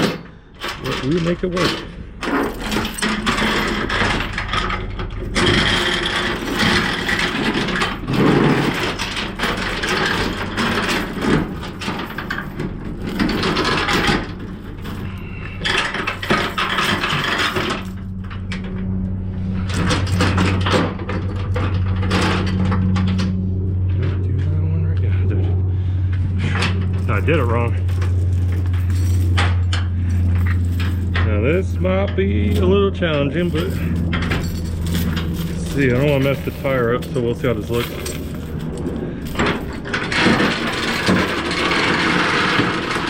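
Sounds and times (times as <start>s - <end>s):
strap and hooks rattling: 0.0s - 18.9s, 26.1s - 43.0s
steady low hum: 0.0s - 43.0s.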